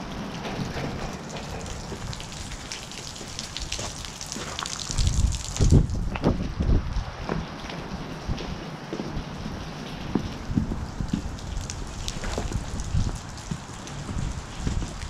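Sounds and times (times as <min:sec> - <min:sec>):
footsteps crunching on wooden debris: 0:00.4 - 0:06.5, 0:07.3 - 0:15.0.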